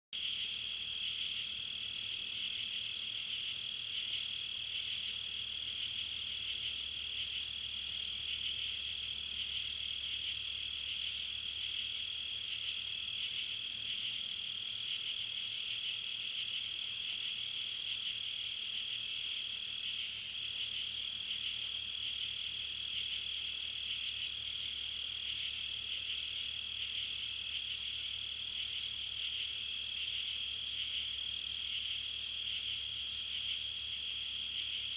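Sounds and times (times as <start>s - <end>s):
crickets trilling: 0.2s - 34.9s.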